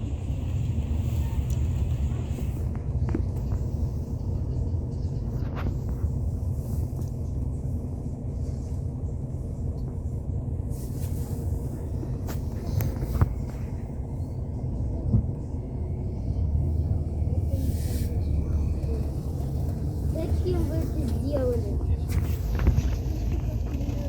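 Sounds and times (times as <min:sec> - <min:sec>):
diesel engine rumble: 0:00.0 - 0:24.0
road noise: 0:00.0 - 0:24.0.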